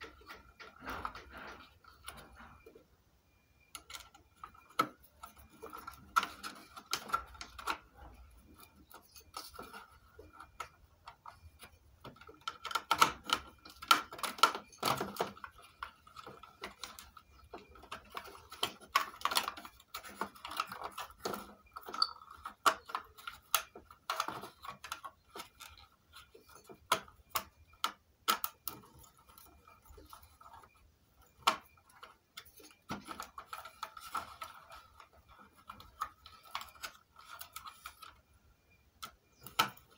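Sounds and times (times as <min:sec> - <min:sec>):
faint steady high tone: 0:00.0 - 0:39.9
hands handling circuit boards: 0:00.0 - 0:39.9.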